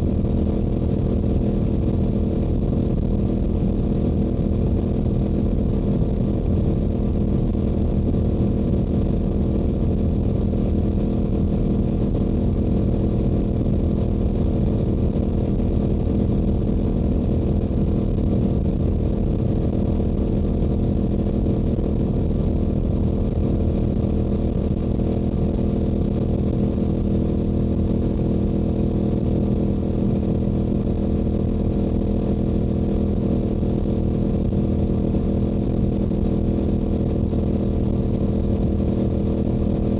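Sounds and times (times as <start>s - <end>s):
low wind rumble: 0.0s - 39.9s.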